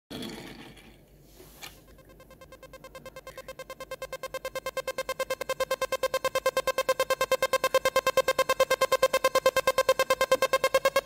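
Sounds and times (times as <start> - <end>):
synth tone pulsing rapidly: 1.8 - 11.0.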